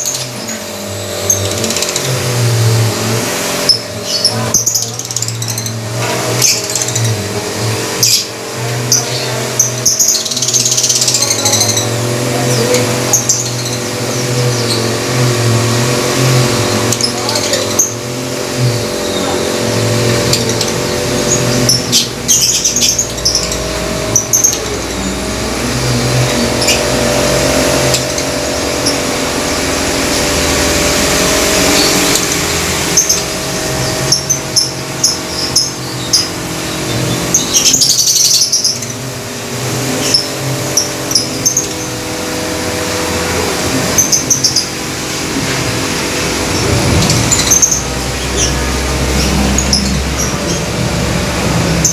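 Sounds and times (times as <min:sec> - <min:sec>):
lovebirds chirping and chattering: 0:00.0 - 0:51.9
steady mechanical hum: 0:00.0 - 0:51.9.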